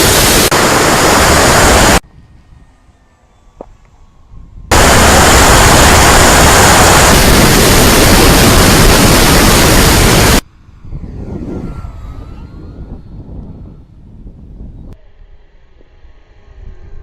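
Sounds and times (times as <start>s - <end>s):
electric motor whine: 0.0s - 17.0s
wind and propeller rushing: 0.0s - 17.0s.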